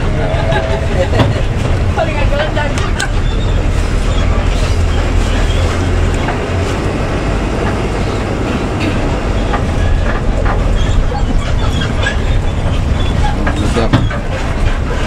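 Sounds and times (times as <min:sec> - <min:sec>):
bus body rattling and knocking: 0:00.0 - 0:15.0
bus engine droning: 0:00.0 - 0:15.0.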